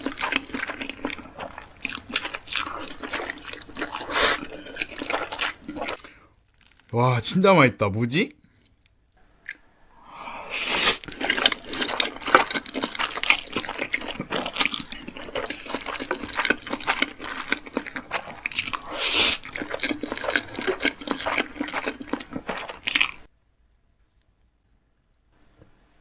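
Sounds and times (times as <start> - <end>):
crunchy food chewing: 0.0 - 6.9, 8.7 - 23.3.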